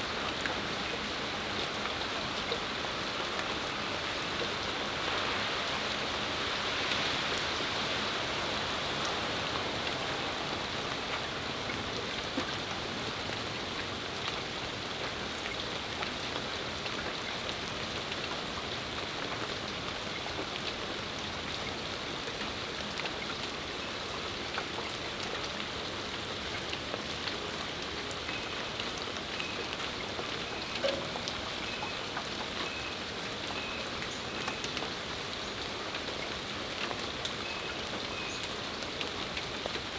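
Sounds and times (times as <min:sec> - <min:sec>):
rain pattering on patio: 0:00.0 - 0:39.9.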